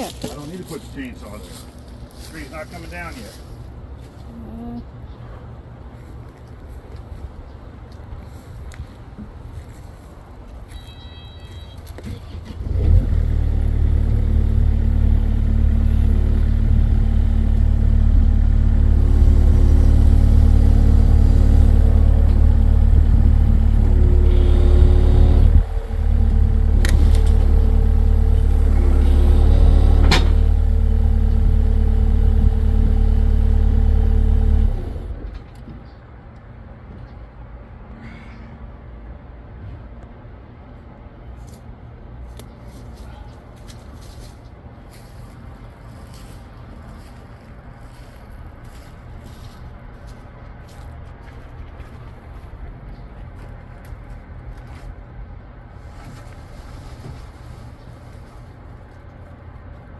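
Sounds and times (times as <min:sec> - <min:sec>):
engine rumbling: 0:00.0 - 0:10.8, 0:11.8 - 0:59.9.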